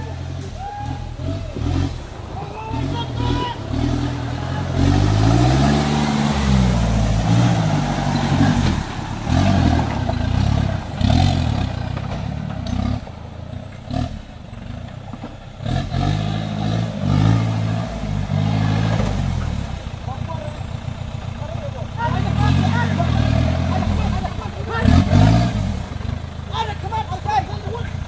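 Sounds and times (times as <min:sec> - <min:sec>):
off-road engine revving: 0:00.0 - 0:28.0.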